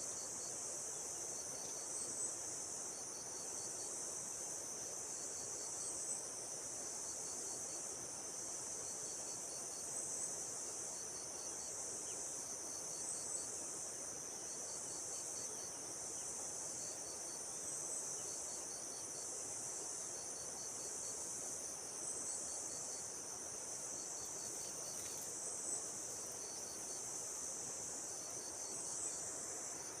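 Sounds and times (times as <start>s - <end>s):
insects chorus: 0.0s - 30.0s.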